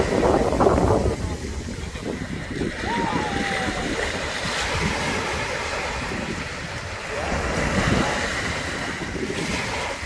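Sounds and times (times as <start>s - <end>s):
waves washing on sand: 0.0s - 10.0s
wind buffeting microphone: 0.0s - 10.0s.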